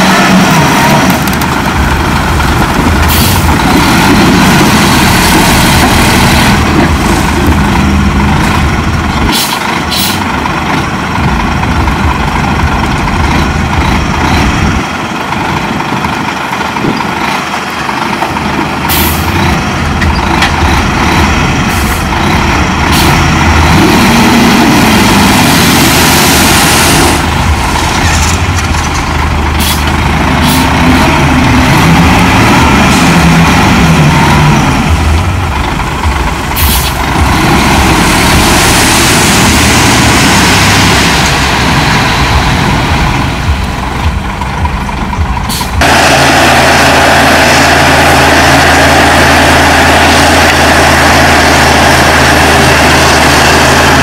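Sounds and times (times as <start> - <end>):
diesel machinery engine under load: 0.0 - 54.0.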